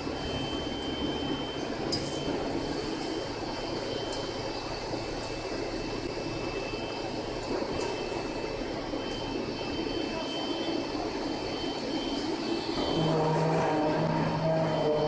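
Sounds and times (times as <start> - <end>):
faint high whine: 0.0 - 15.0
rolling mill machinery running: 0.0 - 15.0.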